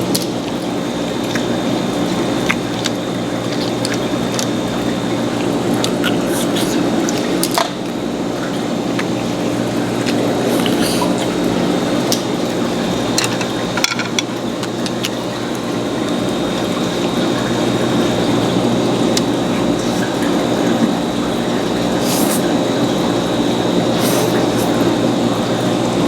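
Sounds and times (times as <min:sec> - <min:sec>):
wet chewing and slurping: 0:00.0 - 0:07.9, 0:08.5 - 0:13.8, 0:14.5 - 0:15.9, 0:18.3 - 0:25.5
steady background hum: 0:00.0 - 0:26.0.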